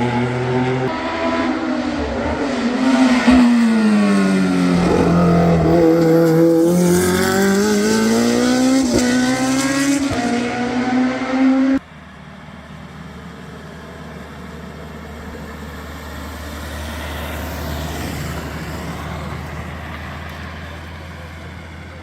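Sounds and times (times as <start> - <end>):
car engine at high revs: 0.0 - 22.0
distant car passing: 0.0 - 22.0.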